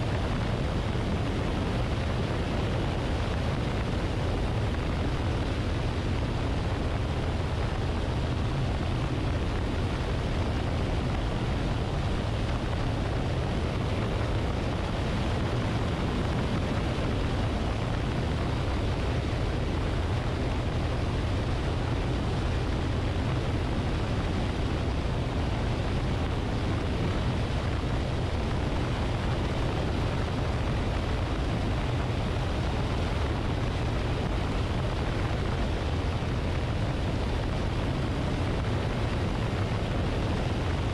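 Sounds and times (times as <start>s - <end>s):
aircraft engine drone: 0.0s - 40.9s
wind rushing over camera: 0.0s - 40.9s.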